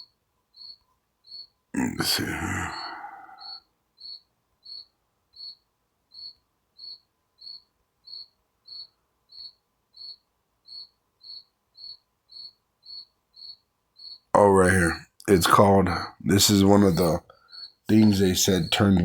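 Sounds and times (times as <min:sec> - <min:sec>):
cricket chirping: 0:00.0 - 0:14.4, 0:16.4 - 0:19.0.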